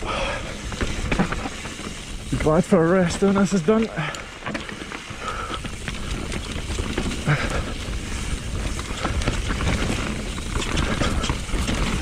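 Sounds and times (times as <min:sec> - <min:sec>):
bike rattles and knocks: 0:00.0 - 0:12.0
bike tyres on dirt: 0:00.0 - 0:12.0.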